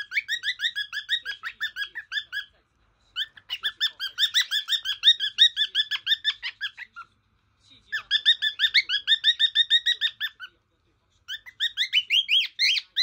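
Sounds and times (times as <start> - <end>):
cockatiel chirping: 0.0 - 7.1, 7.9 - 10.6, 11.2 - 13.0.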